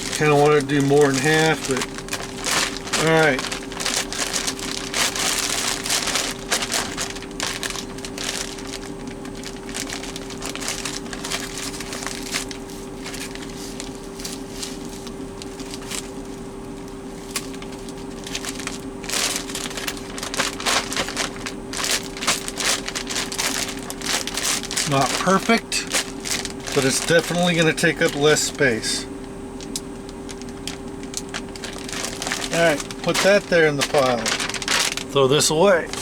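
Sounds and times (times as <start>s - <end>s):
plastic bag crinkling: 0.0s - 36.0s
steady hum: 0.0s - 36.0s.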